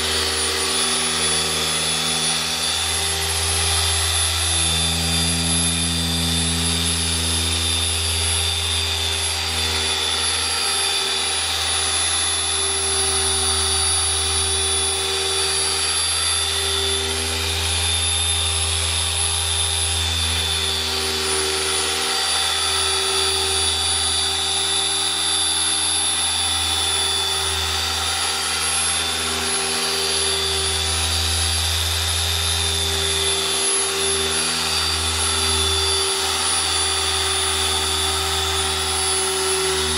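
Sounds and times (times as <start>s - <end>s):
electric polisher motor whine: 0.0s - 39.9s.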